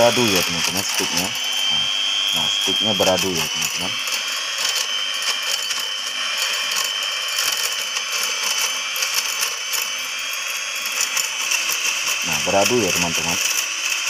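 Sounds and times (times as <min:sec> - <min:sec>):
electric hand mixer whine: 0:00.0 - 0:14.0
mixer beaters rattling: 0:00.0 - 0:14.0.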